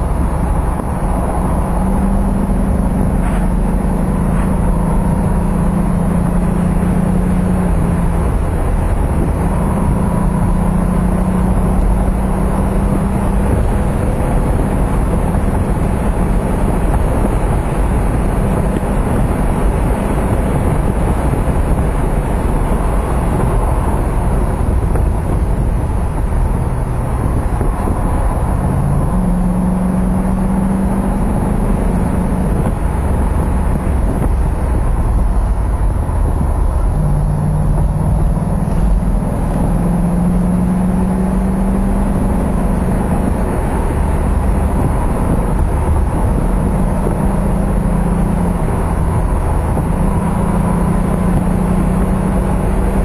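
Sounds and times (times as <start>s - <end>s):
car engine at road speed: 0.0s - 53.0s
tyre and wind noise: 0.0s - 53.0s.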